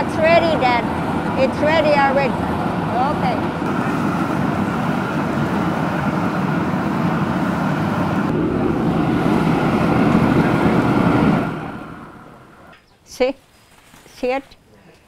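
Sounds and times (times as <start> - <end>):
gas burners rushing: 0.0 - 12.8.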